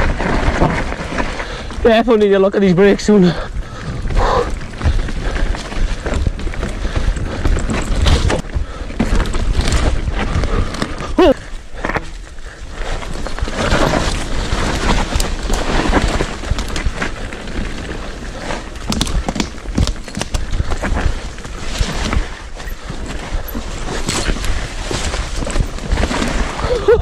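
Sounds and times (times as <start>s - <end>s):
bike rattling and knocking: 0.0s - 27.0s
tyre roar and crunch on dirt: 0.0s - 27.0s
wind rumble on microphone: 3.4s - 27.0s.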